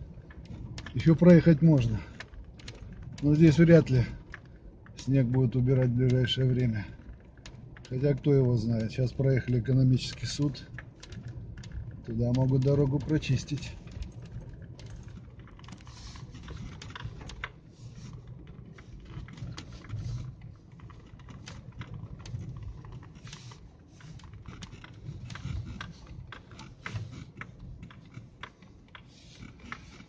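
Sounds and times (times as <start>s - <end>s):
engine and tyres rumbling: 0.0s - 30.0s
light clicks and crackles: 0.0s - 30.0s.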